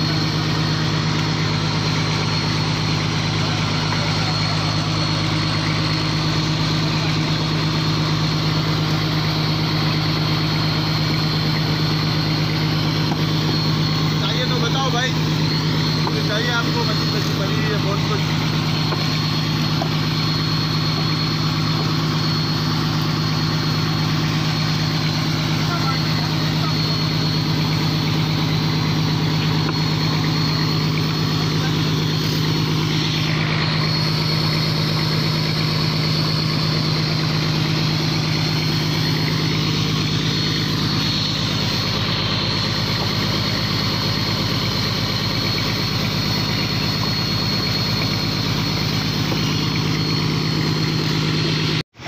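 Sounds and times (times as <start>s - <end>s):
boat engine humming with whine: 0.0s - 52.0s.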